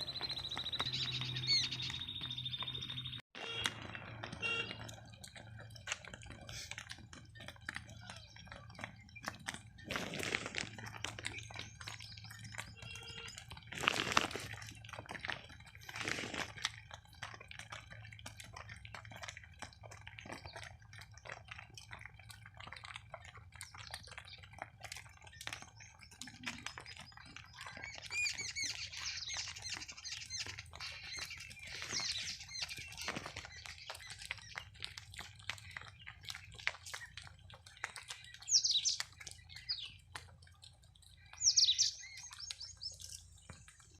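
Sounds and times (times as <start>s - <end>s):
cow chewing fodder: 0.0s - 43.9s
crackling clicks: 0.0s - 43.9s
small birds chirping: 0.0s - 43.9s.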